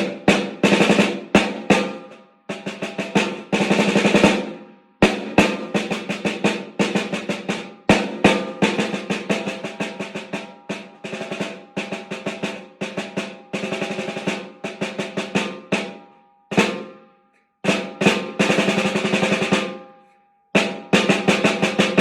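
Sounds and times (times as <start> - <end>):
snare drum strokes and rolls: 0.0 - 17.0, 17.7 - 19.8, 20.6 - 22.0.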